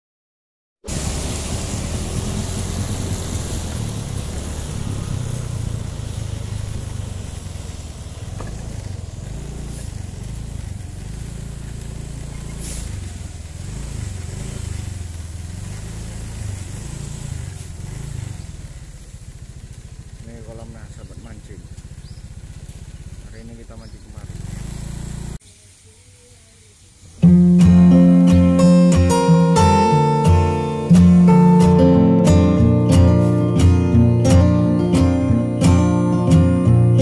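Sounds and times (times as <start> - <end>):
road and wind noise: 0.8 - 25.4, 26.2 - 37.0
motorcycle engine running: 0.9 - 25.4, 27.1 - 37.0.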